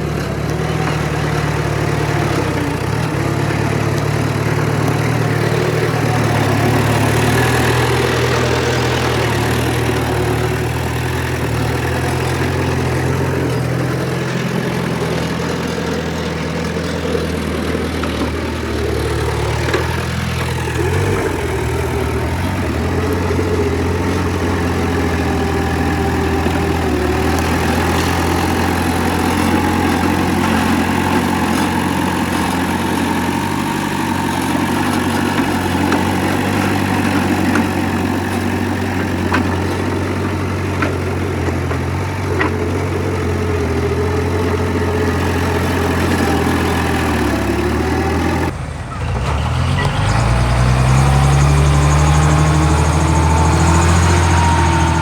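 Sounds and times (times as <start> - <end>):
diesel engine running at low revs: 0.0 - 55.0.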